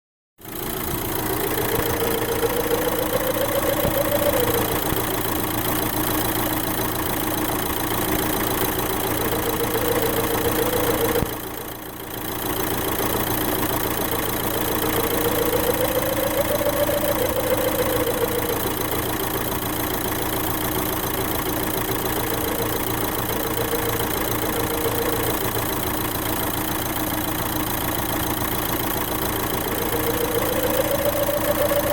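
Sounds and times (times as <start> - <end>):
diesel engine idling: 0.4 - 31.9.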